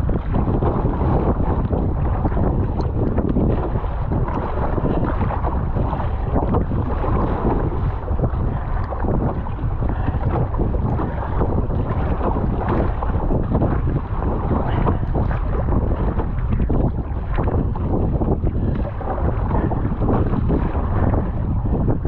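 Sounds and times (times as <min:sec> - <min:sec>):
water sloshing around a kayak: 0:00.0 - 0:22.0
wind buffeting microphone: 0:00.0 - 0:22.0.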